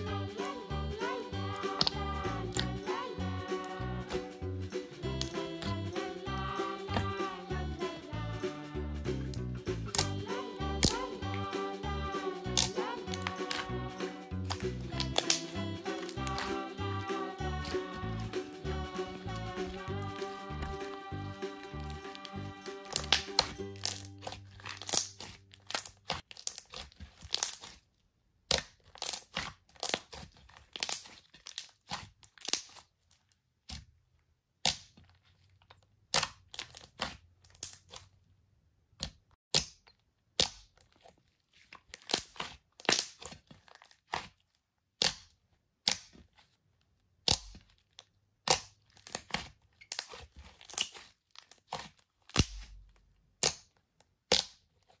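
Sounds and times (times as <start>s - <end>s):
slime crackling and popping: 1.6s - 2.9s, 3.8s - 5.8s, 9.3s - 11.4s, 12.4s - 38.2s, 38.9s - 46.5s, 47.1s - 55.0s.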